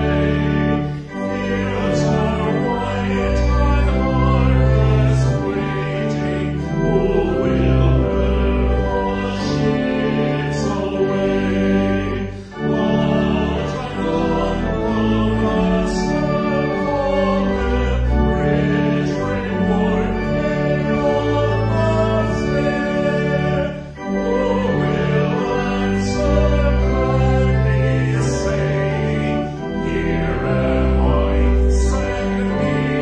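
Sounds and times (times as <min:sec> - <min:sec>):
organ chords: 0:00.0 - 0:33.0
voices singing a hymn: 0:00.0 - 0:33.0.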